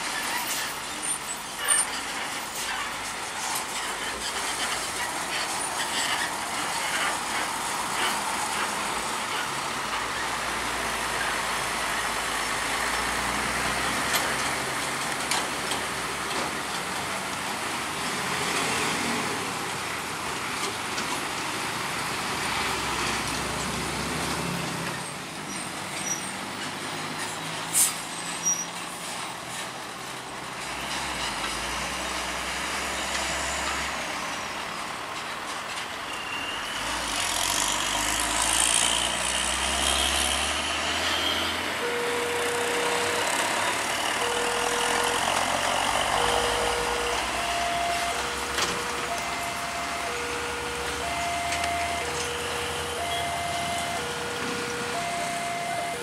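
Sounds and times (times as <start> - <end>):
trucks passing: 0.0 - 56.0.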